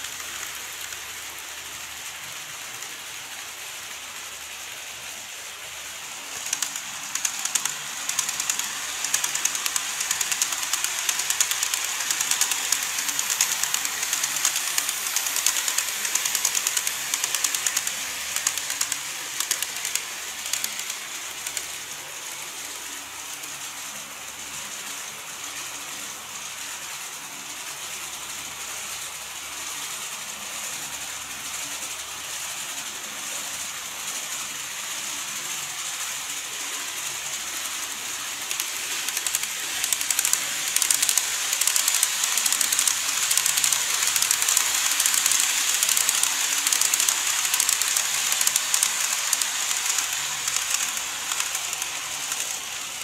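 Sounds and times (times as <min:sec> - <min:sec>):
model trains clicking on track: 0:00.0 - 0:53.0.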